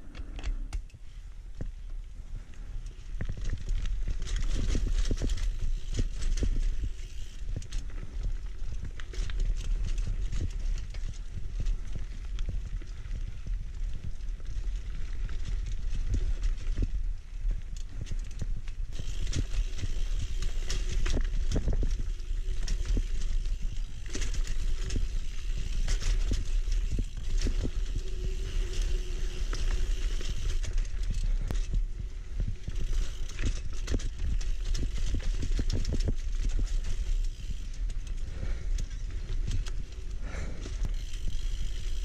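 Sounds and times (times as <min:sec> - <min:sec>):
bike clicking and rattling: 0:00.0 - 0:42.0
bike tyres rumbling on dirt: 0:00.0 - 0:42.0.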